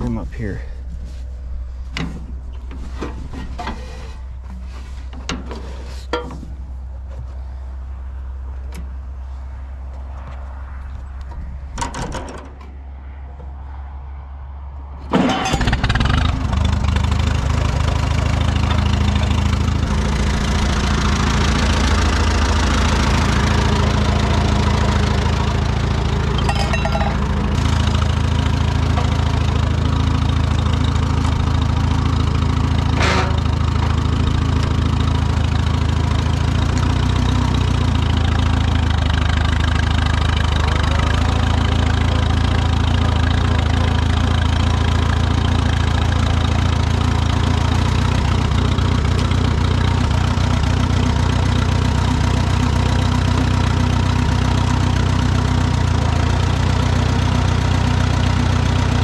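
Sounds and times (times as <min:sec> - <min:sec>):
tractor engine running: 0:00.0 - 0:13.6, 0:15.0 - 0:59.0.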